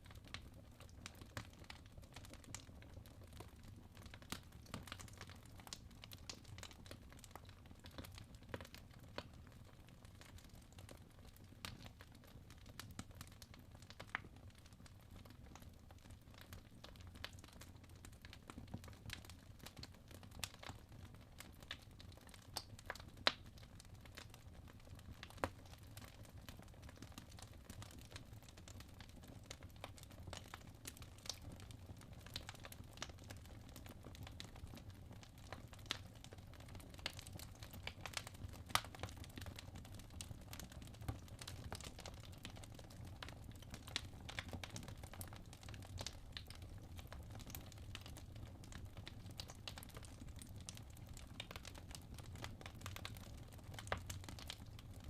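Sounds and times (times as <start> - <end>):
low soft rumble of fire: 0.0 - 55.0
wood fire crackling and popping: 0.0 - 55.0.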